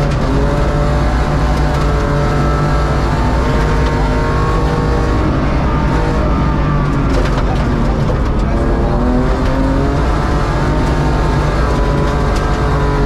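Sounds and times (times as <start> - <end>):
car engine running hard: 0.0 - 13.0
gravel and tyre road noise: 0.0 - 13.0.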